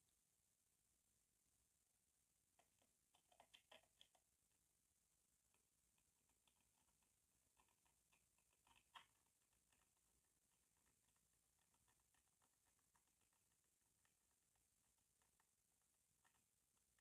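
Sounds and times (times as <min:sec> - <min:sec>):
faint clicks and taps: 0:02.5 - 0:04.6, 0:05.4 - 0:17.0.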